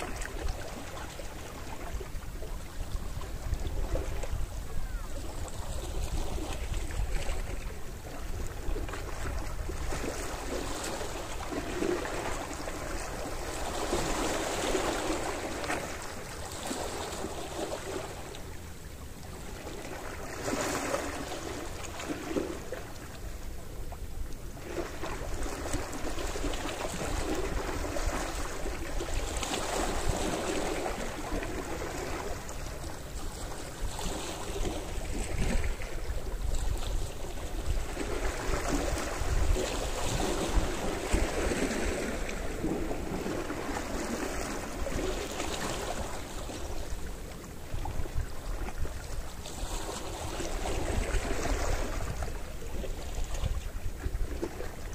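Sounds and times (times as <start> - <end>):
small waves washing ashore: 0.0 - 54.9.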